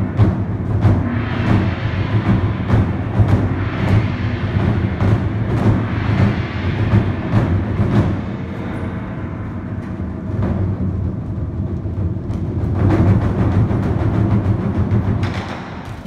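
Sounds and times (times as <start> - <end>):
drum ensemble rolling beat: 0.0 - 16.0.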